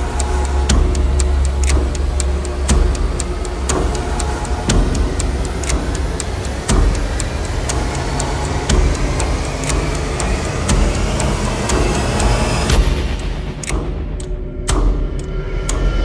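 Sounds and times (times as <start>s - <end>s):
deep steady rumble: 0.0s - 16.0s
regular ticking: 0.0s - 16.0s.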